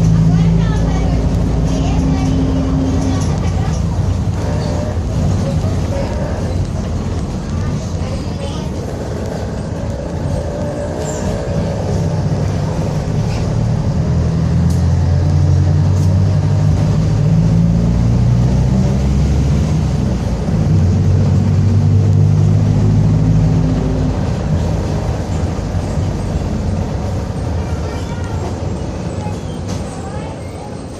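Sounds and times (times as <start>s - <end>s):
bus diesel engine under load: 0.0s - 30.9s.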